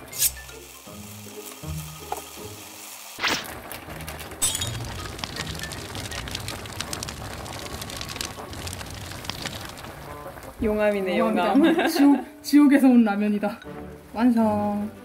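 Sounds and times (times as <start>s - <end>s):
soft background music: 0.0s - 7.1s, 10.0s - 15.0s
broth boiling and bubbling: 0.0s - 15.0s.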